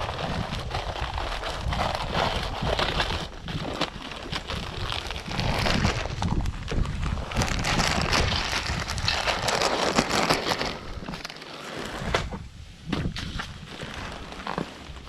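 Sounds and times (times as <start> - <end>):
insulation sleeve crinkling: 0.0 - 12.4.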